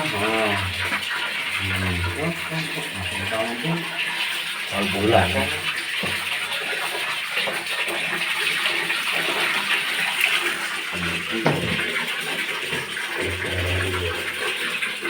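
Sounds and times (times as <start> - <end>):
water splashing and rushing: 0.0 - 15.0.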